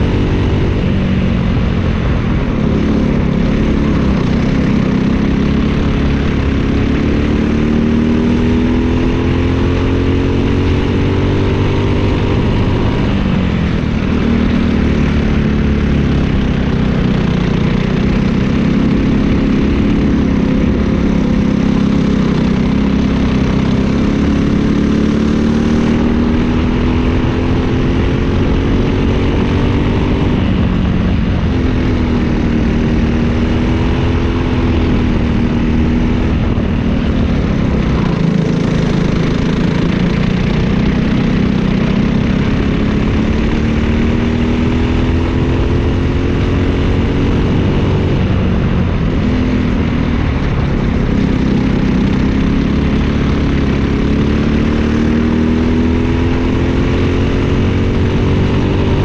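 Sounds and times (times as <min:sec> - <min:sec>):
kart engine revving: 0:01.5 - 0:59.0.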